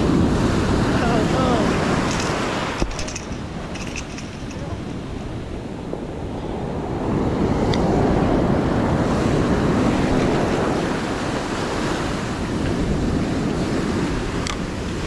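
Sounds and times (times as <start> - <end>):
ocean surf washing on shore: 0.0 - 15.0
wind buffeting microphone: 0.0 - 15.0.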